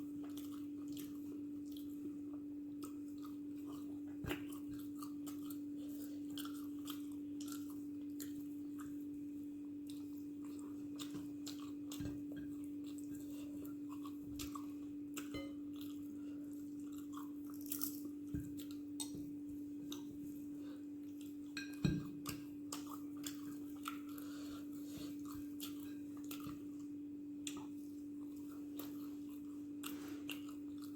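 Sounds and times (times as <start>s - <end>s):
person chewing food: 0.0s - 30.9s
steady low hum: 0.0s - 30.9s.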